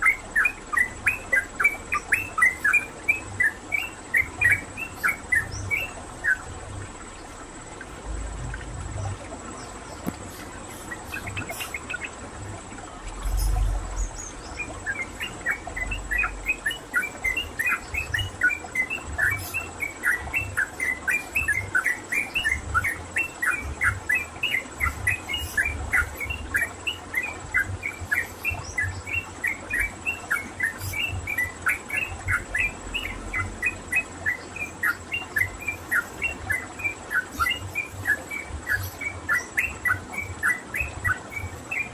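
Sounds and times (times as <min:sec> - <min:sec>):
bird chirping: 0:00.0 - 0:07.4, 0:09.0 - 0:12.2, 0:13.2 - 0:41.9.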